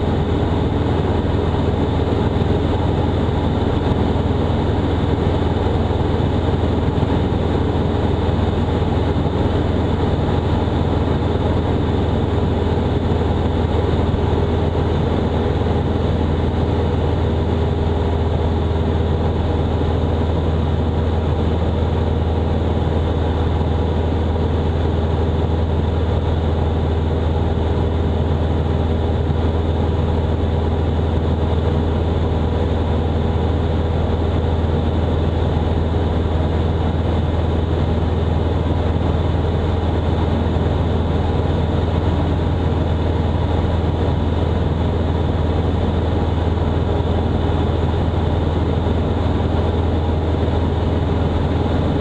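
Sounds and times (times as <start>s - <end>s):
aircraft engine and propeller drone: 0.0s - 52.0s.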